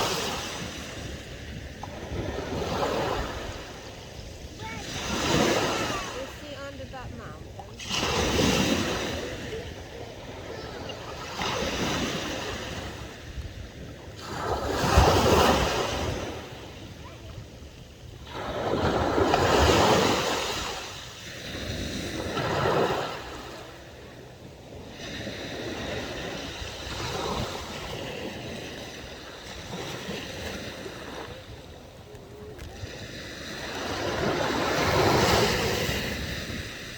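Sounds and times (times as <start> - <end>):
sea waves breaking on shore: 0.0 - 36.9
wind on microphone: 0.0 - 36.9.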